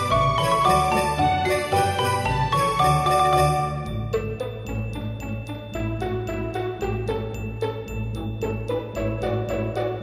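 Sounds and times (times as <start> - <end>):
bell-like tune over steady beat: 0.0 - 10.0.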